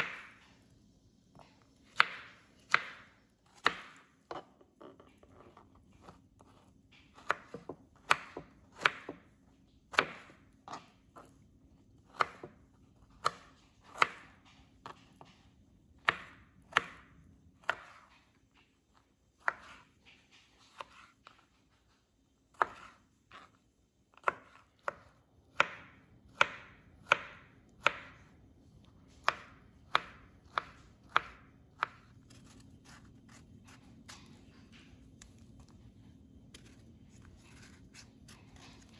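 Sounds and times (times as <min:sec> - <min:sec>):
knife slicing fruit: 0:01.3 - 0:09.3, 0:12.0 - 0:15.3, 0:16.0 - 0:18.3, 0:19.4 - 0:21.6, 0:22.5 - 0:38.9.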